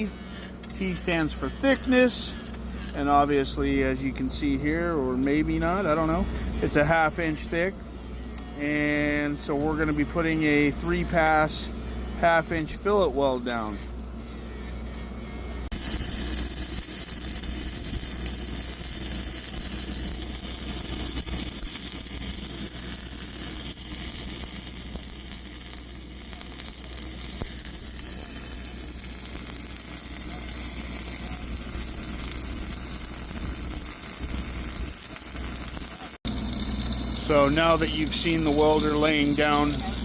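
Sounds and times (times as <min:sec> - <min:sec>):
steady low hum: 0:00.0 - 0:40.0
welding arc sizzling: 0:00.0 - 0:40.0.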